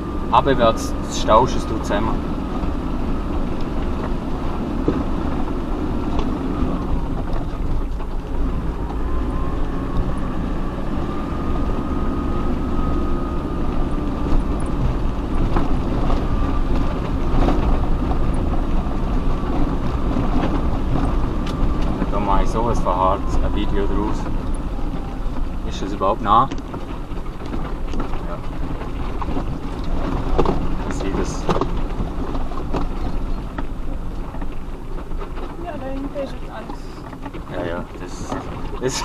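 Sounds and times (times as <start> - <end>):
engine and tyres rumbling: 0.0 - 39.0
knocks and rattles: 0.0 - 39.0.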